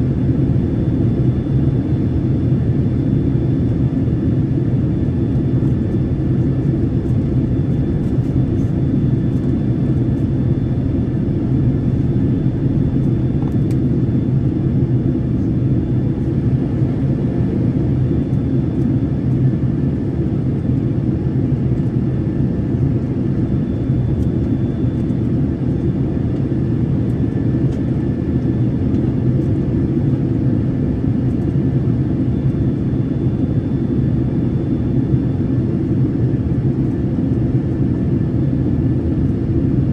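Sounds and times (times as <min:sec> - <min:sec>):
engine and airflow rumble: 0:00.0 - 0:39.9.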